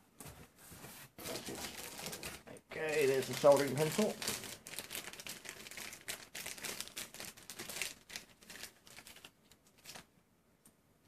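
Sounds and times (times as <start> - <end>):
plastic bag crinkling: 1.2 - 10.1.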